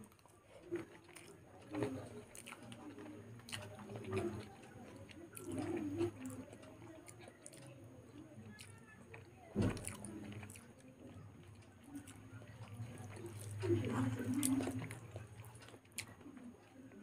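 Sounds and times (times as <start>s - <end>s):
person chewing: 0.0s - 7.8s, 8.4s - 17.0s.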